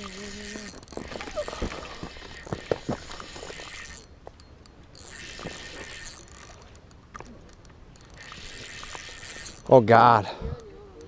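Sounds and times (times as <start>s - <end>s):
fishing reel whirring: 0.0s - 11.0s.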